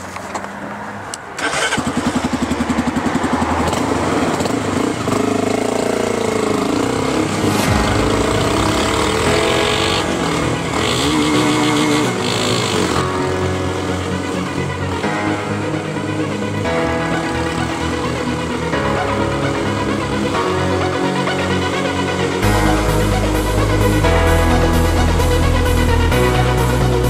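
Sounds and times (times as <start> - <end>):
motorcycle engine revving: 1.4 - 24.2.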